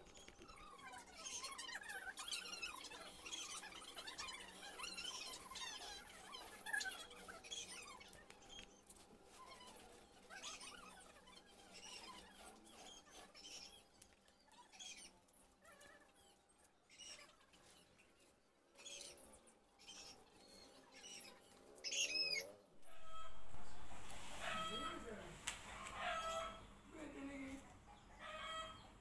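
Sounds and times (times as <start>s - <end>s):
faint bird chirps: 0.0s - 25.2s.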